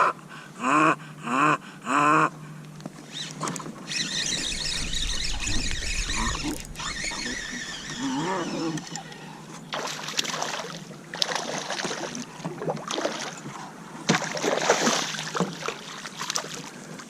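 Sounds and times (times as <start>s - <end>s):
water splashing: 3.3s - 17.0s.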